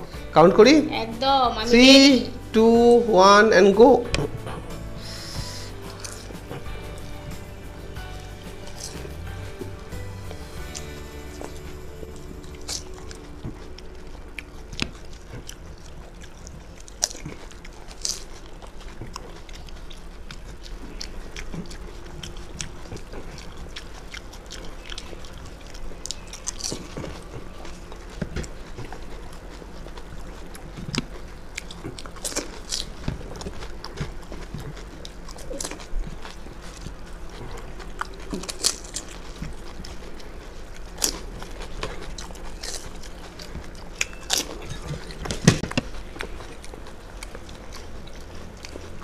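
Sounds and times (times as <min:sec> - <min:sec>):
crunching and chewing: 0:03.8 - 0:49.0.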